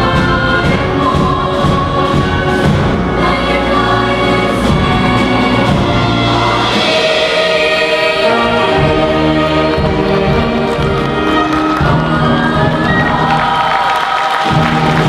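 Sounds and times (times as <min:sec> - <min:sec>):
choir singing: 0:00.0 - 0:15.0
concert band playing: 0:00.0 - 0:15.0.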